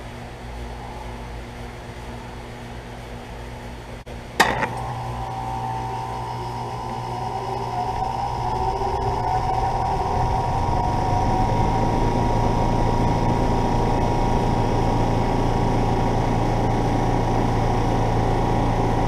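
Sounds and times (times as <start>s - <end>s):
compressor whine: 0.0s - 19.0s
heat pump humming: 0.0s - 19.0s.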